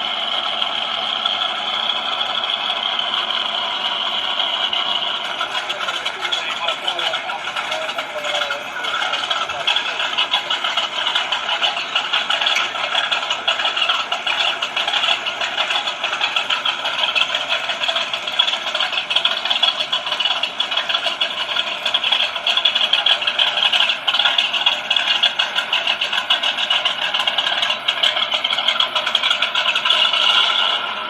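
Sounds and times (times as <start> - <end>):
car engine running with rattle: 0.0 - 31.0.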